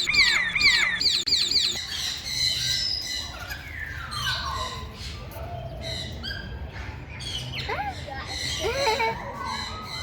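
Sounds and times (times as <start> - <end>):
caged birds calling: 0.0 - 10.0.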